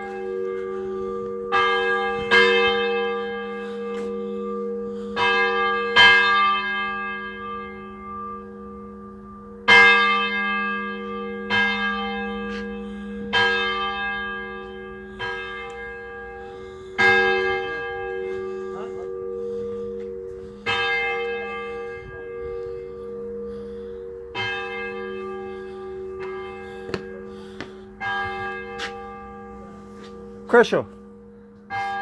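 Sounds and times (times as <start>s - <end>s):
church bells ringing: 0.0s - 32.0s.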